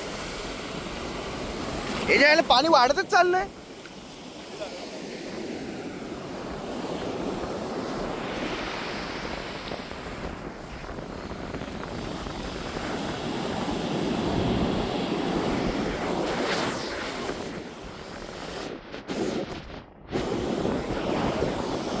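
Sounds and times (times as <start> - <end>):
sea waves breaking: 0.0 - 22.0
wind buffeting microphone: 0.0 - 22.0.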